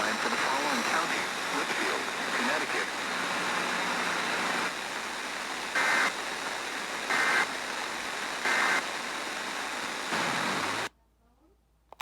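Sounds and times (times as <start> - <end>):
steady hiss: 0.0 - 10.9.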